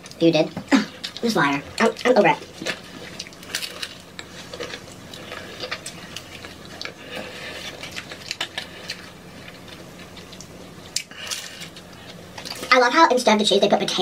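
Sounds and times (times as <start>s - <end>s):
chewing and crunching tacos: 0.0s - 12.8s.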